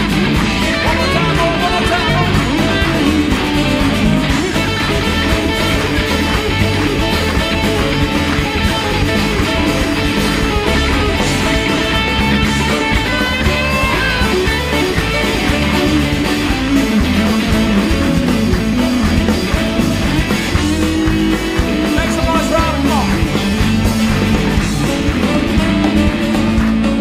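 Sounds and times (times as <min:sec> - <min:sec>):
rock band playing: 0:00.0 - 0:27.0
sliding lead guitar notes: 0:00.0 - 0:27.0.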